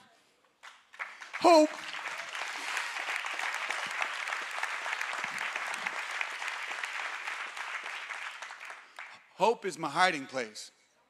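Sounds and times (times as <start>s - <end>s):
audience clapping: 0.6s - 9.4s.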